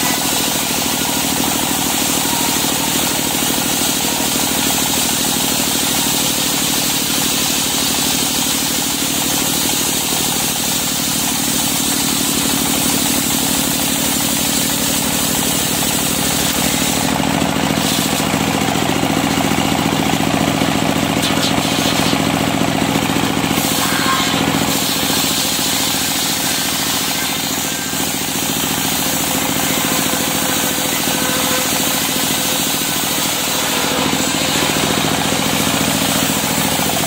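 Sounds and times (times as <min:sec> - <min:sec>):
circular saw ripping wood: 0:00.0 - 0:37.0.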